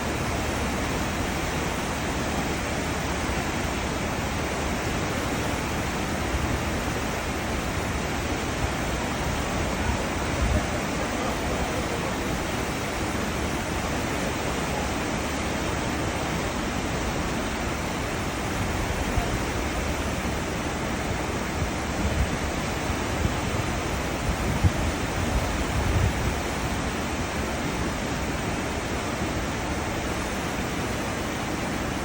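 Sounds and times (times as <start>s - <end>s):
ship wake rushing and churning: 0.0s - 32.0s.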